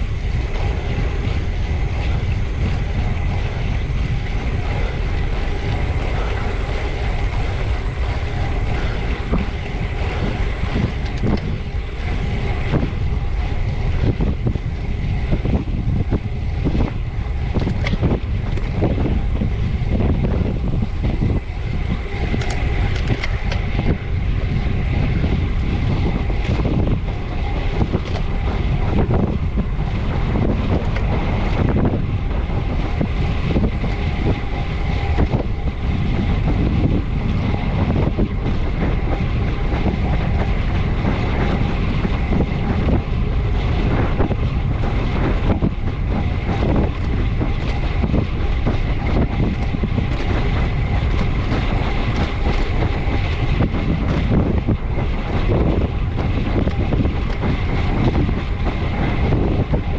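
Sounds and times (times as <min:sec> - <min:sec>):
bicycle road rumble: 0:00.0 - 0:59.9
wind rush on microphone: 0:00.0 - 0:59.9.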